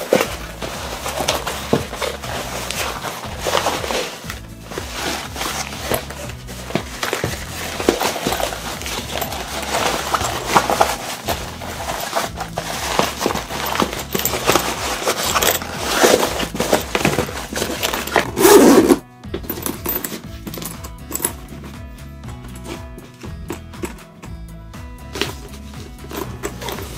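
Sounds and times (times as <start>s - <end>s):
leather and cloth rustling: 0.0s - 24.3s, 25.1s - 26.9s.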